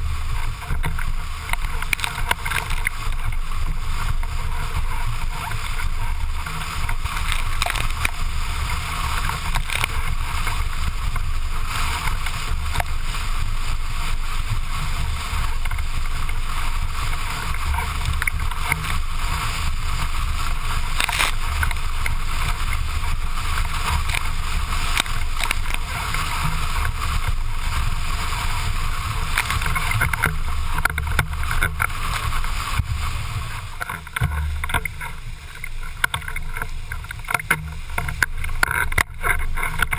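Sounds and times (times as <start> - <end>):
hull slapping on waves: 0.0 - 39.9
water and spray rushing: 0.0 - 39.9.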